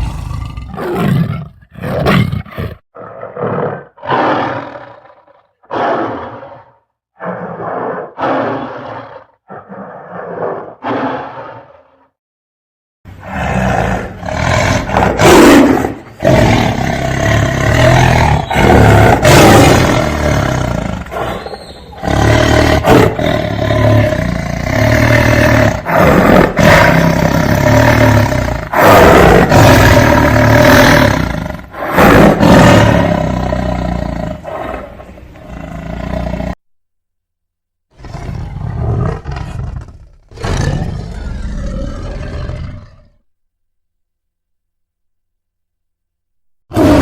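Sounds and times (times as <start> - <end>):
tiger roaring and growling: 0.0 - 12.1, 13.1 - 36.6, 38.0 - 43.3, 46.7 - 47.0.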